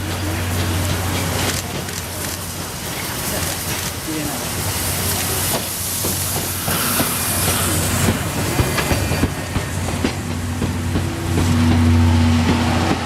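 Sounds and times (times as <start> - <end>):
train wheels clicking over rail joints: 0.0 - 4.1, 5.0 - 13.0
steam locomotive hum and hiss: 0.0 - 13.0.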